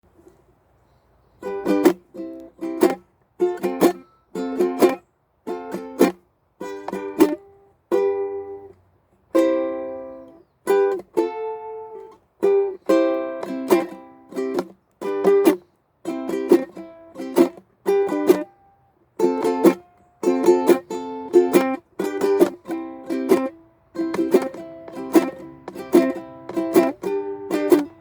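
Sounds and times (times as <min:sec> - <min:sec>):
ukulele chords strummed: 0:01.4 - 0:28.0.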